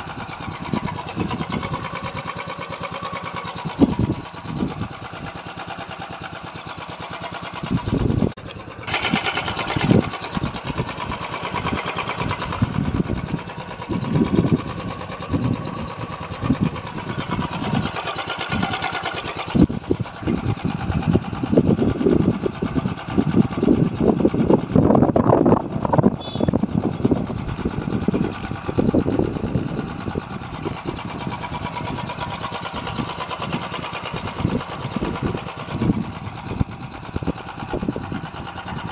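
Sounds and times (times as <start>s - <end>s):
motorcycle engine ticking: 0.0s - 38.9s.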